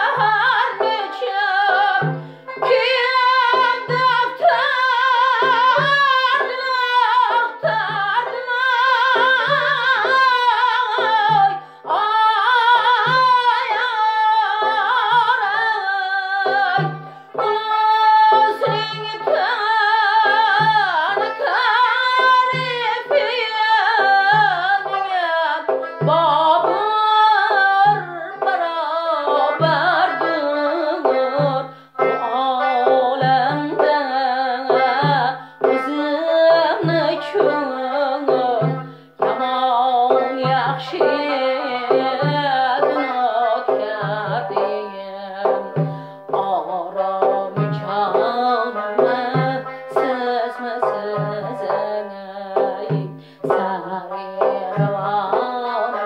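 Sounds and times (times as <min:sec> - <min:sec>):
frame drum beat: 0:00.0 - 0:56.0
woman singing: 0:00.0 - 0:56.0.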